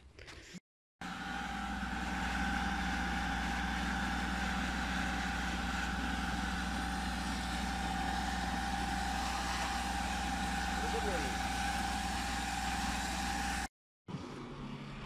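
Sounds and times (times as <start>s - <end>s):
water pump whine: 1.0s - 13.7s.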